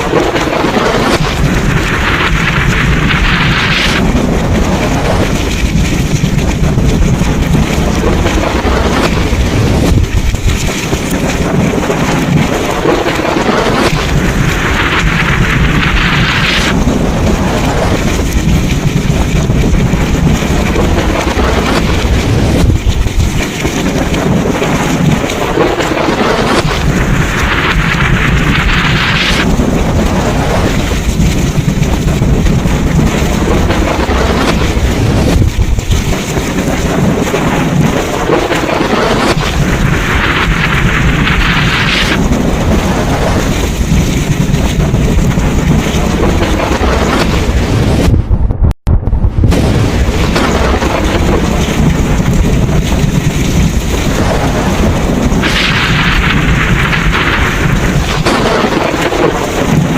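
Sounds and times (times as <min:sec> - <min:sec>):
deep rumble of thunder: 0:00.0 - 0:59.9
heavy rain: 0:00.0 - 0:59.9
wind: 0:00.0 - 0:59.9.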